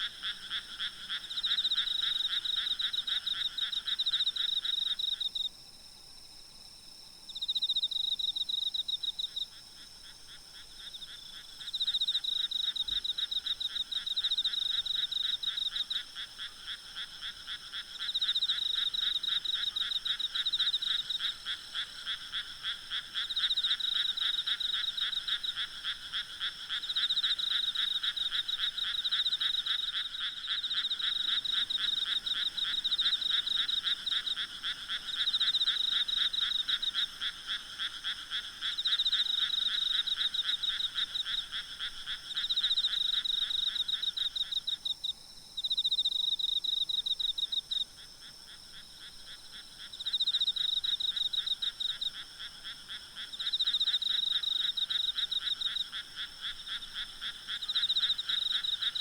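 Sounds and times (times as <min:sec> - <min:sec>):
frogs croaking: 0:00.0 - 0:05.5, 0:07.3 - 0:59.0
insects trilling: 0:00.0 - 0:05.5, 0:07.3 - 0:59.0.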